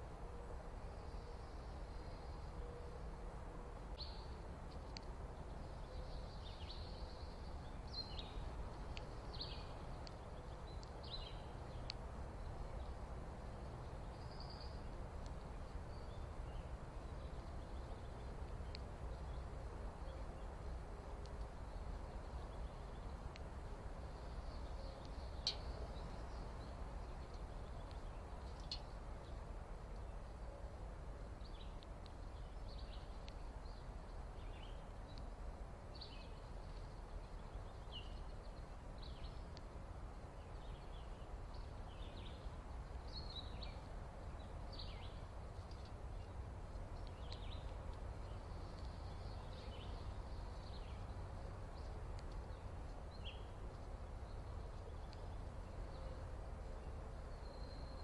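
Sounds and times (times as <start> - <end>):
birds chirping: 4.0 - 30.7, 35.9 - 58.0.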